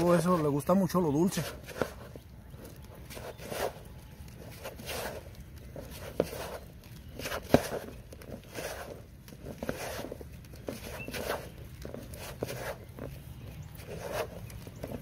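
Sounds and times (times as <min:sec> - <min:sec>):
hands squelching bait dough: 0:00.0 - 0:15.0.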